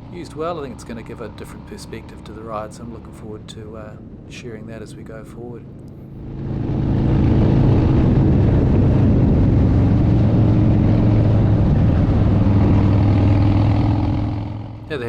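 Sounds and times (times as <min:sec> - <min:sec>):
motorcycle engine cruising: 0:00.0 - 0:03.1, 0:05.6 - 0:15.0
wind and road noise: 0:00.0 - 0:15.0.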